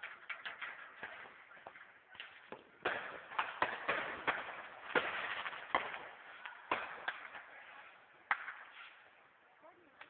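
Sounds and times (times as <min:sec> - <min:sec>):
fireworks bangs and pops: 0:00.0 - 0:10.0
fireworks hissing crackle: 0:00.0 - 0:10.0.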